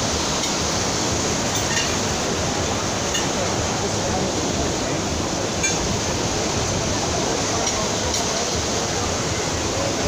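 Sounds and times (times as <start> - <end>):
waves breaking: 0.0 - 10.0.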